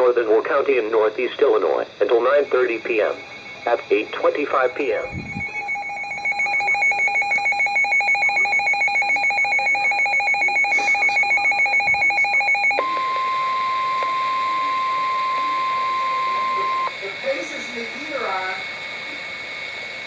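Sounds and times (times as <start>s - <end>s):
steady emergency alert tone: 0.0s - 20.0s
rapid pulsing alert beep: 2.2s - 18.7s.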